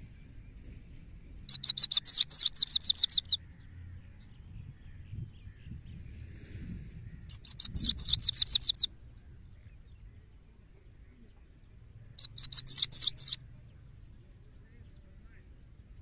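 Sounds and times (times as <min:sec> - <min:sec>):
bird twittering song: 0:00.0 - 0:06.2, 0:07.0 - 0:16.0.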